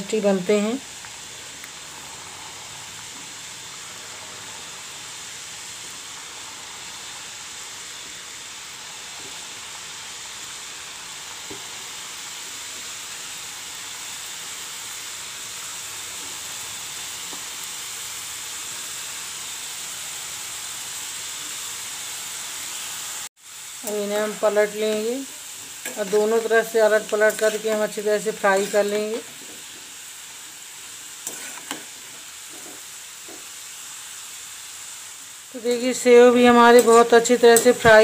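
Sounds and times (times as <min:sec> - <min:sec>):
dough deep-frying in hot oil: 0:00.0 - 0:38.0.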